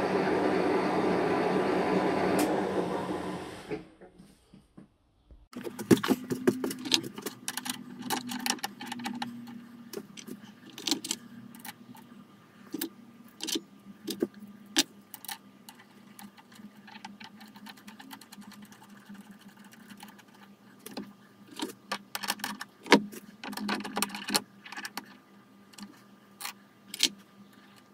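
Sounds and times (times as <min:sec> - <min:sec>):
steady low hum: 0:05.3 - 0:27.9.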